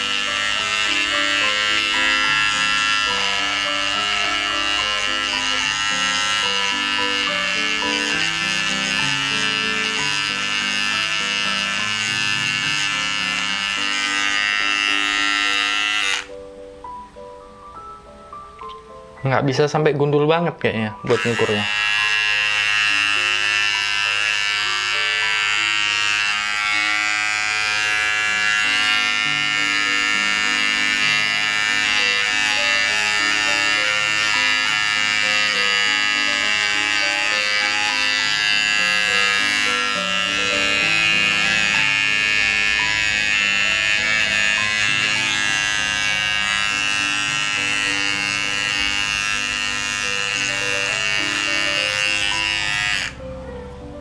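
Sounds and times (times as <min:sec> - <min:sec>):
hair trimmer buzzing: 0:00.0 - 0:16.4, 0:21.0 - 0:53.3
background music: 0:00.0 - 0:54.0.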